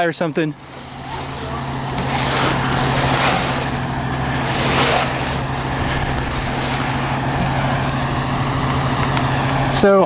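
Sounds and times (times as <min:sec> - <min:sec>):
street noise: 0:00.0 - 0:10.0
vehicle engine idling: 0:00.0 - 0:10.0.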